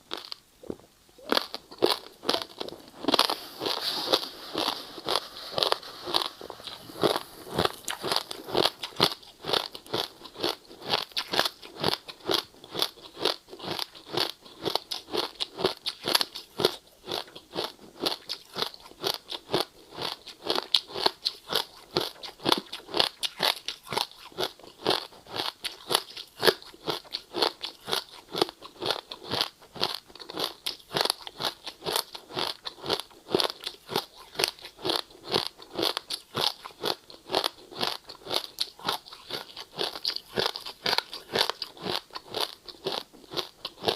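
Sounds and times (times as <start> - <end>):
person chewing crunchy ice: 0.1 - 43.9.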